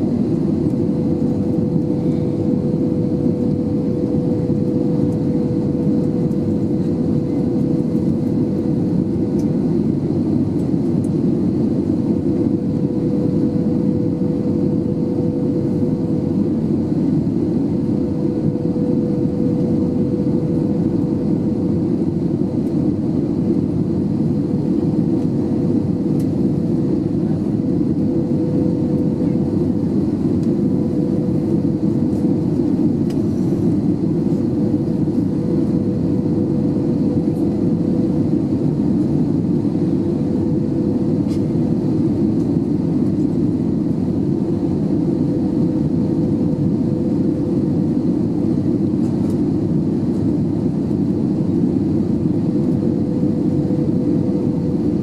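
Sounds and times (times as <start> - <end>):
airplane cabin airflow and engine: 0.0 - 55.0
steady hum: 0.0 - 55.0.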